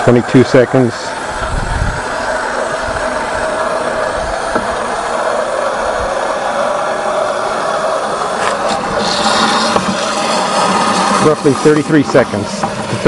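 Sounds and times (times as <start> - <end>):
water rushing through siphon pump: 0.0 - 13.0.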